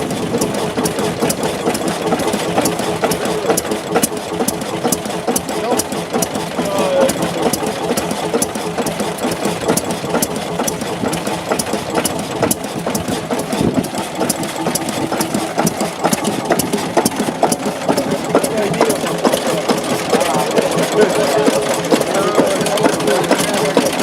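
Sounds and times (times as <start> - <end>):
diesel engine knocking: 0.0 - 24.0.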